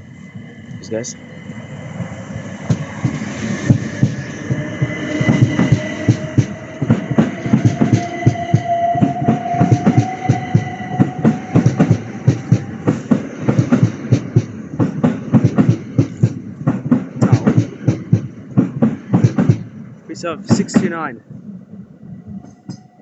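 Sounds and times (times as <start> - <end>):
train motor whine: 0.0 - 20.9
train wheels clattering over rails: 1.9 - 21.2.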